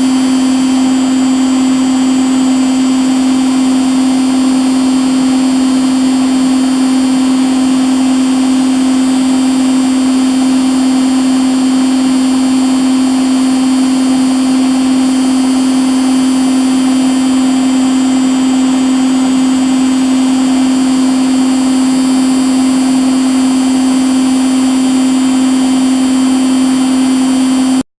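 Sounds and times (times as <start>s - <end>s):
appliance motor humming: 0.0s - 27.8s.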